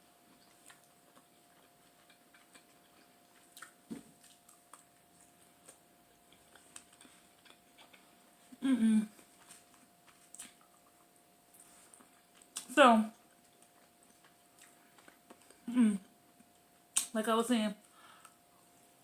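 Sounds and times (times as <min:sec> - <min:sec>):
faint chewing: 0:00.2 - 0:15.7.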